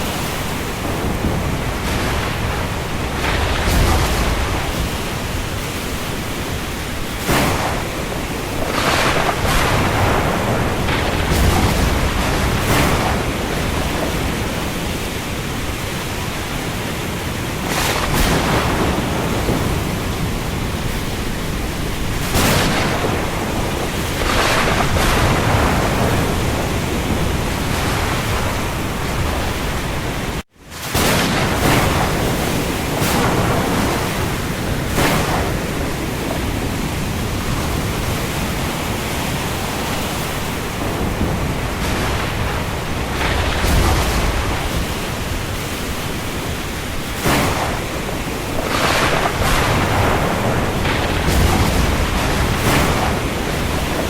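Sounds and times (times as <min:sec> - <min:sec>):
heavy rain on the sea: 0:00.0 - 0:54.0.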